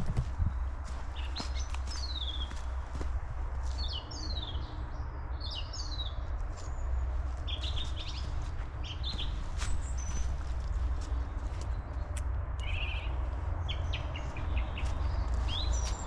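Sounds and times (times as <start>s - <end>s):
footsteps on forest floor: 0.0s - 4.0s, 6.4s - 16.0s
steady low rumble: 0.0s - 5.4s, 6.1s - 16.0s
songbirds chirping: 0.0s - 16.0s.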